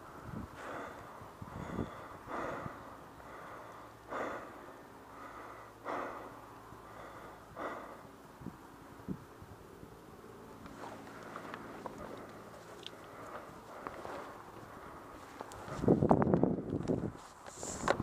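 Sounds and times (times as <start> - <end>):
person breathing heavily: 0.0 - 8.2, 10.8 - 17.9.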